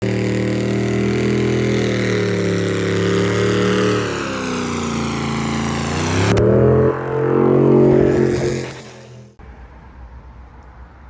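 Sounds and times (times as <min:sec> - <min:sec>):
engine running at high revs: 0:00.0 - 0:09.4.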